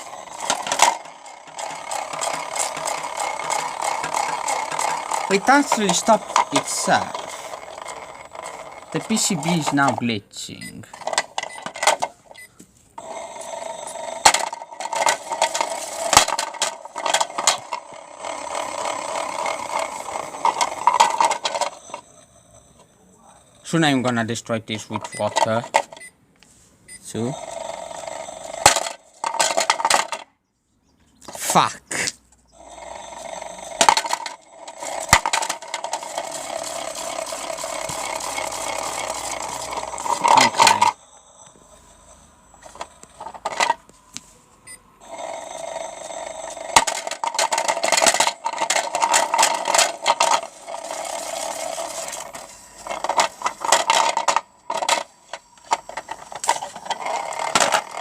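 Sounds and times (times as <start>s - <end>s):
bricks rattling and scraping: 0.0s - 10.2s, 10.8s - 12.4s, 13.0s - 26.0s, 27.2s - 30.3s, 32.6s - 43.9s, 45.0s - 58.0s
toy washing machine whirring: 0.0s - 26.1s, 27.1s - 30.2s, 32.6s - 44.2s, 45.0s - 58.0s.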